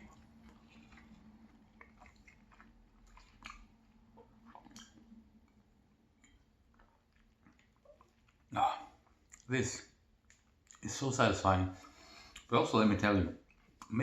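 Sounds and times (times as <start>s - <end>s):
person chewing food: 0.0s - 10.8s, 13.4s - 14.0s.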